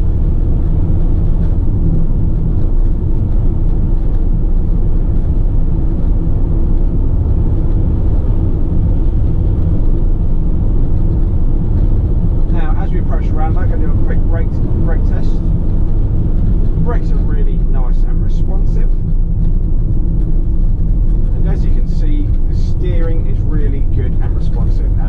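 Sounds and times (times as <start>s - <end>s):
diesel engine and road noise: 0.0s - 25.0s.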